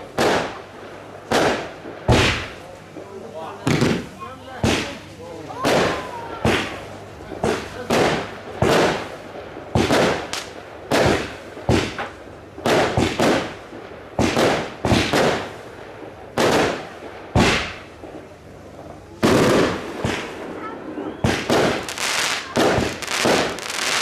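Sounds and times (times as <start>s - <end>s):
loud firework bursts: 0.0s - 24.0s.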